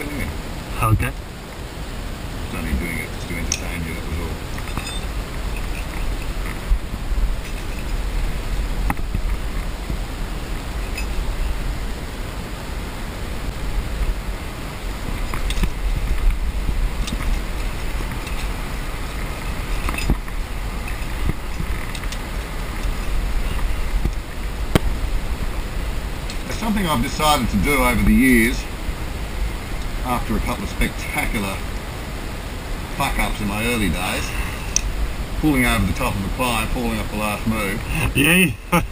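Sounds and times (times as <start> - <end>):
wind rumbling on microphone: 0.0 - 38.9.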